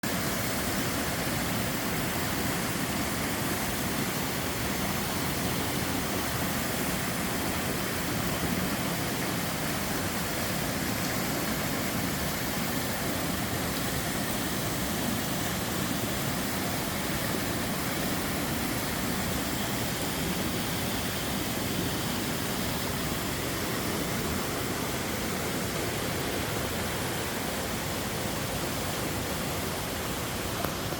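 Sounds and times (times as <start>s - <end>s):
waterfall splashing: 0.0s - 30.9s.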